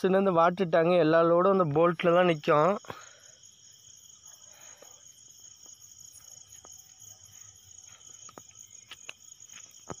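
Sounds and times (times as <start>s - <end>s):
high-pitched insect chirring: 0.0s - 10.0s.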